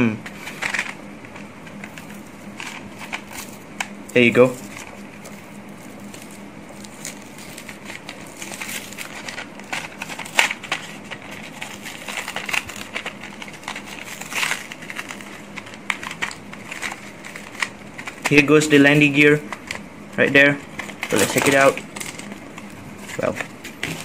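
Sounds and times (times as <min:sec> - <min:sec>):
packaging crinkling: 0:00.3 - 0:24.0.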